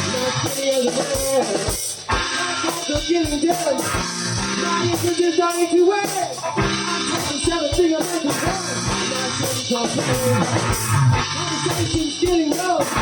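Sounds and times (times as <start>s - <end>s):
drum beat: 0.0s - 13.0s
electric guitar: 0.0s - 13.0s.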